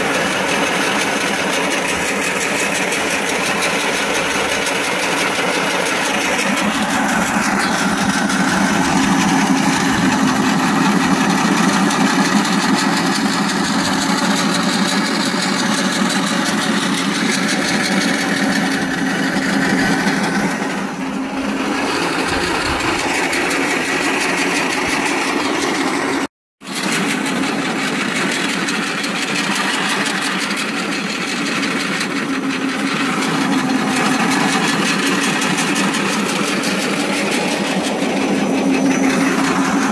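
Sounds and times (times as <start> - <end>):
pellet mill running: 0.0 - 39.9.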